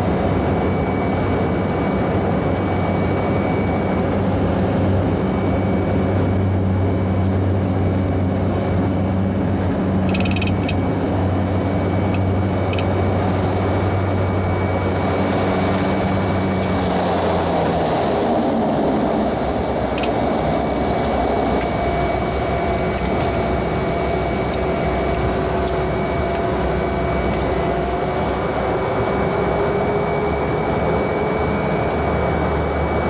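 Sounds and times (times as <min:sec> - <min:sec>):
turboprop engine drone: 0:00.0 - 0:33.0.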